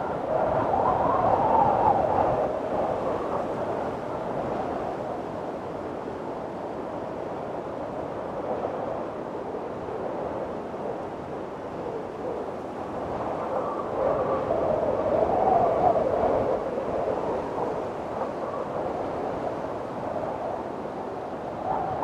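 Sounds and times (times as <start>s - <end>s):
strong wind blowing: 0.0s - 22.0s.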